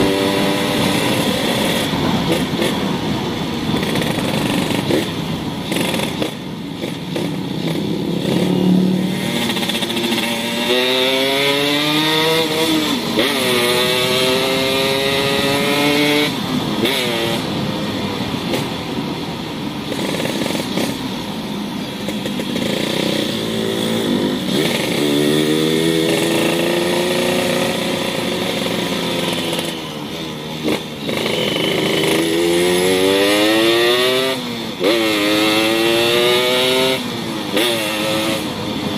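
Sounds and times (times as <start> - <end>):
motorcycle accelerating: 0.0 - 38.9.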